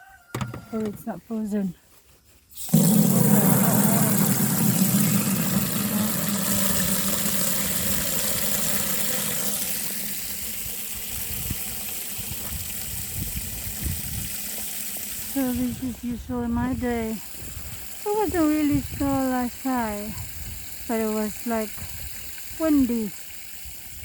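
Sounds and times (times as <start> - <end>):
water gushing from tap: 2.6 - 16.0, 17.2 - 24.0.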